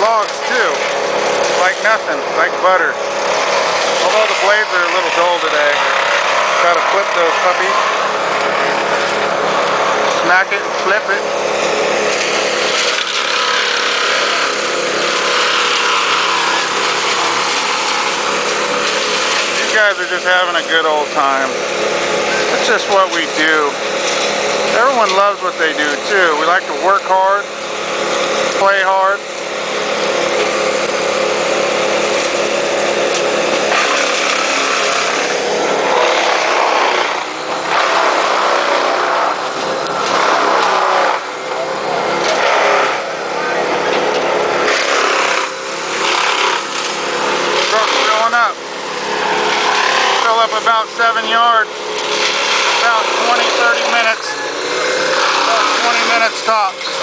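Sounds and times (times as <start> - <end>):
diesel engine drone: 0.0 - 57.0
heavy machinery running: 0.0 - 57.0
loud grinding noise: 0.0 - 57.0.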